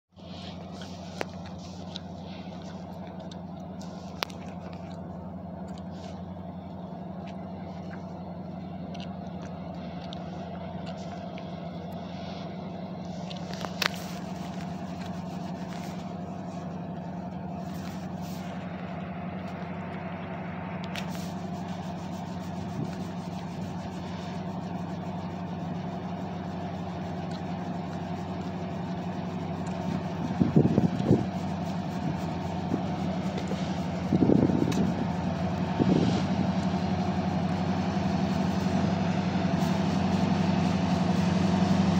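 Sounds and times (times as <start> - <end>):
diesel locomotive drone: 0.1 - 41.9.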